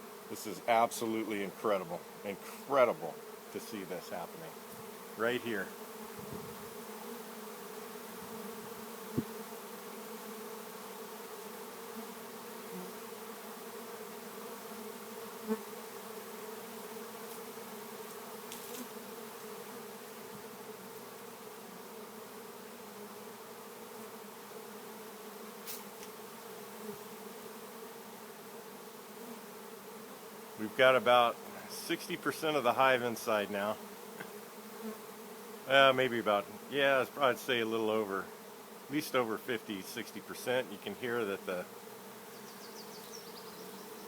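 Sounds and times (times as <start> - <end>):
bee swarm buzzing: 0.0 - 44.0.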